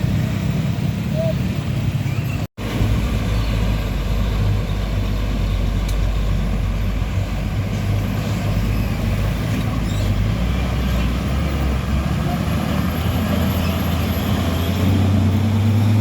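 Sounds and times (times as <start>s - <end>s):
heavy truck engine rumble: 0.0s - 16.0s
road noise: 0.0s - 16.0s.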